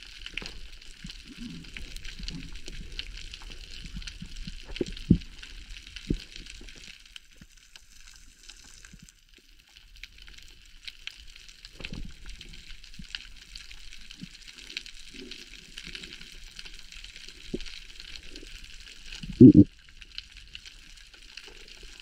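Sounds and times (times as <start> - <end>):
small crackling clicks: 0.0 - 22.0.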